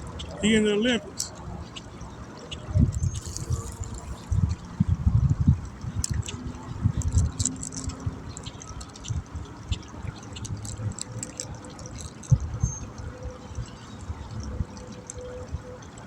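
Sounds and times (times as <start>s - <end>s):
water dripping: 0.0s - 16.0s
water splashing and trickling: 0.0s - 16.0s.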